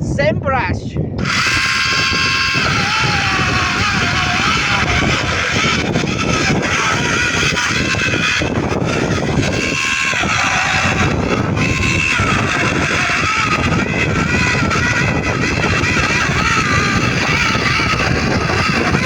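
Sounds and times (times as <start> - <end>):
electric chainsaw cutting wood: 1.2 - 19.0.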